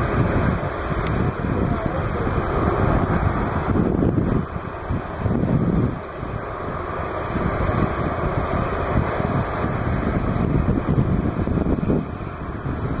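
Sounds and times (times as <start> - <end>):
jet engines rumbling at takeoff: 0.0 - 13.0.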